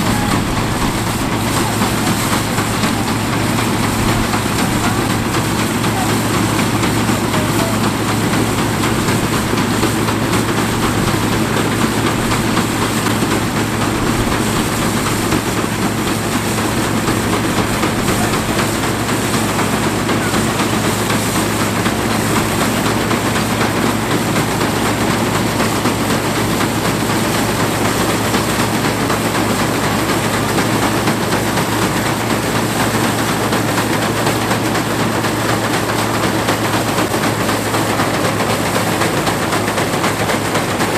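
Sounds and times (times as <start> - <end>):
combine harvester clattering: 0.0 - 40.9
tractor engine running: 0.0 - 40.9.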